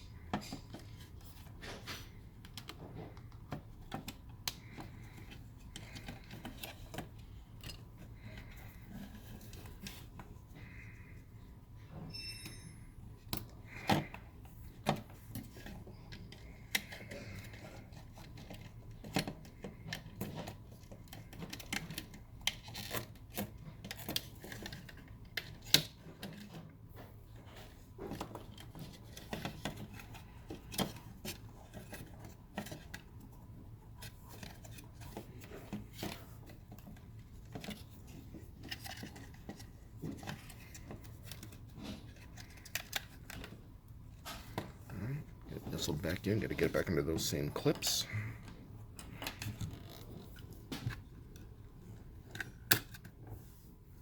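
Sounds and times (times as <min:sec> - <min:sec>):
plastic parts clicking and tapping: 0:00.1 - 0:11.3, 0:13.2 - 0:53.4.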